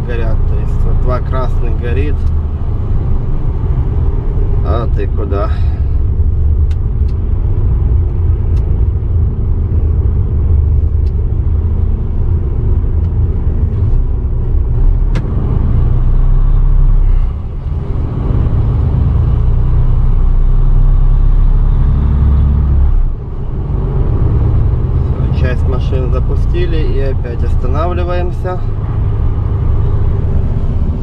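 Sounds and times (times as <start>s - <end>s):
truck diesel engine rumble: 0.0s - 31.0s.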